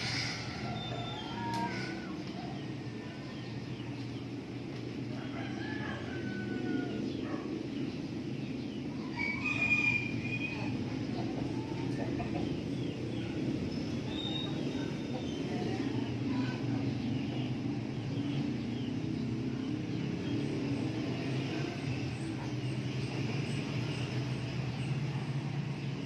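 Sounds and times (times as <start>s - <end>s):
steady low rumble: 0.0s - 9.4s, 10.0s - 26.0s
chickens chirping and clucking: 0.0s - 26.0s.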